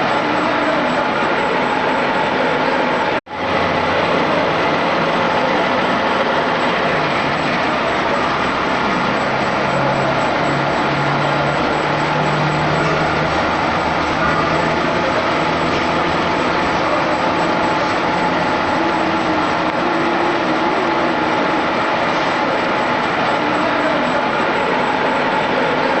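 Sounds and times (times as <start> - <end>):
faint steady tones: 0.0 - 26.0
milling machine cutting: 0.0 - 26.0.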